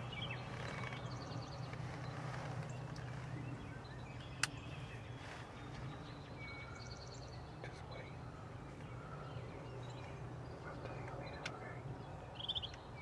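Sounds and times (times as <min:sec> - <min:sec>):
low background hum: 0:00.0 - 0:13.0
small birds chirping: 0:00.0 - 0:13.0.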